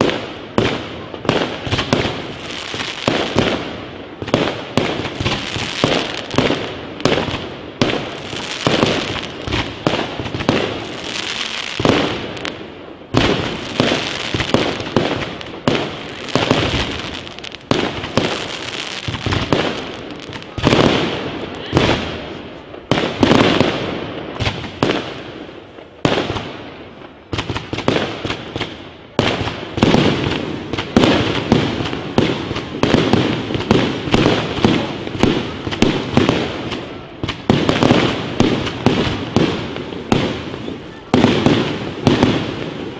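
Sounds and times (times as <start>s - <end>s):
fireworks launching and bursting: 0.0s - 42.9s.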